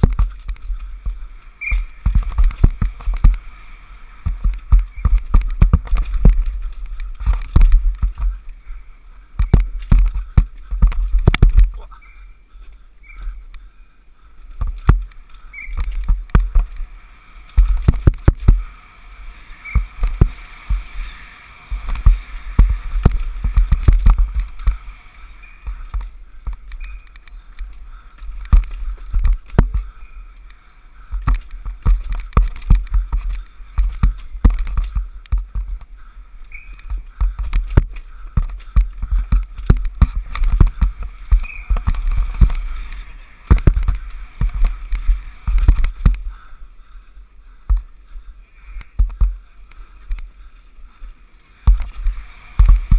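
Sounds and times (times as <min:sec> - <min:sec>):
wind buffeting microphone: 0:00.0 - 0:11.8, 0:14.4 - 0:52.9
bike rattling over rough trail: 0:00.0 - 0:52.9.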